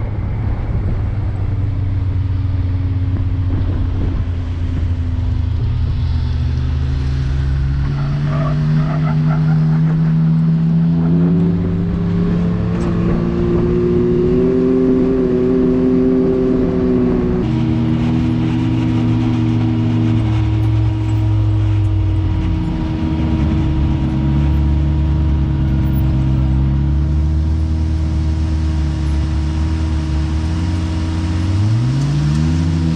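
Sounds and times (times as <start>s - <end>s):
vehicle engine accelerating: 0.0s - 32.9s.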